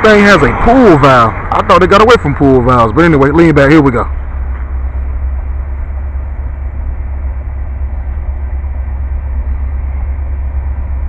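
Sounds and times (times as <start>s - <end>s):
diesel locomotive rumbling: 0.0s - 11.0s.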